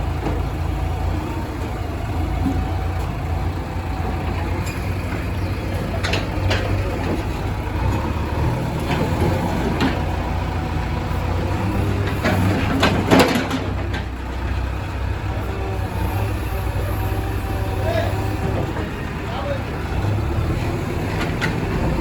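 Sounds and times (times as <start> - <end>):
diesel engine running: 0.0 - 22.0
engine knocks and clatter: 0.0 - 22.0.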